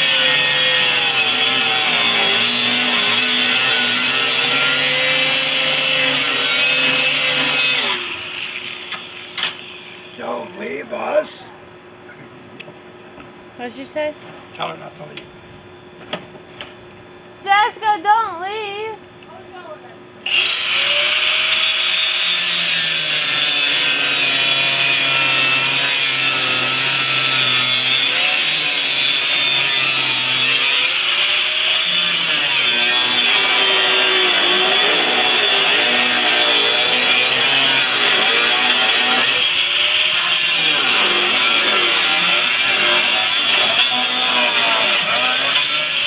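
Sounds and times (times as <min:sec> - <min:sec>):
power tool whining: 0:00.0 - 0:11.3, 0:20.2 - 0:46.0.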